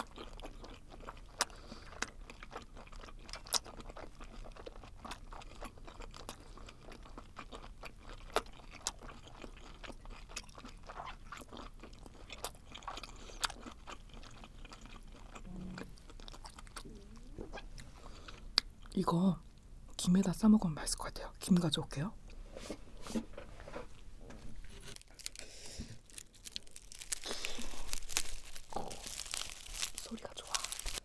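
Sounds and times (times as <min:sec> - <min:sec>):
mouth chewing chewy flesh: 0:00.0 - 0:19.0, 0:24.9 - 0:31.0.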